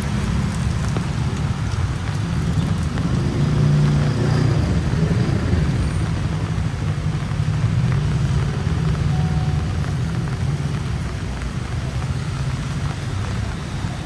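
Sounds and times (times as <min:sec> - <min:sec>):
low rumble of traffic: 0:00.0 - 0:14.0
vehicle engine hum: 0:00.0 - 0:14.0
wet road hiss: 0:00.0 - 0:14.0.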